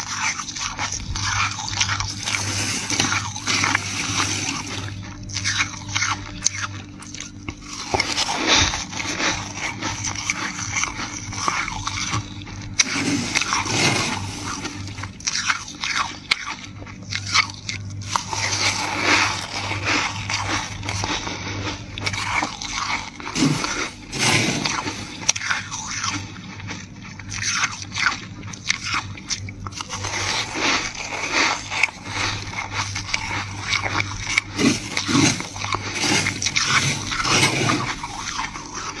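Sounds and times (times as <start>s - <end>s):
frost being chewed and crunched: 0.0s - 39.0s.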